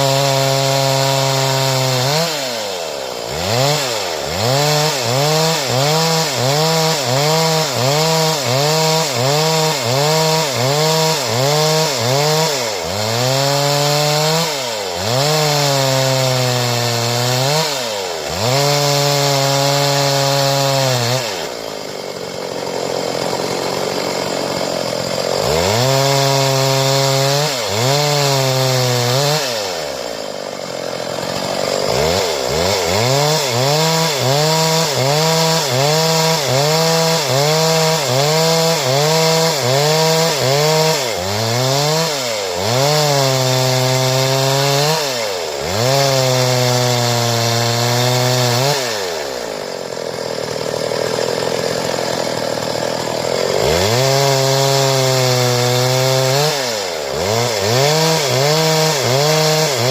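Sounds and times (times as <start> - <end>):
chainsaw sawing through wood: 0.0 - 59.9.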